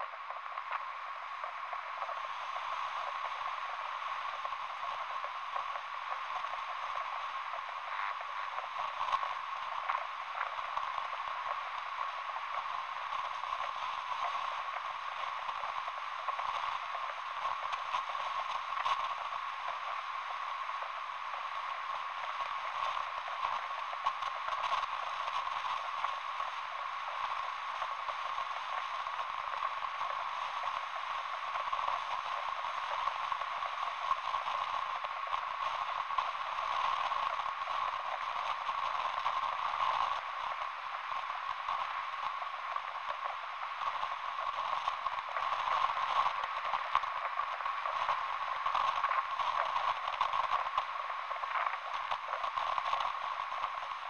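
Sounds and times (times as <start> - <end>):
radio static hiss: 0.0 - 54.0
static crackles: 0.0 - 54.0.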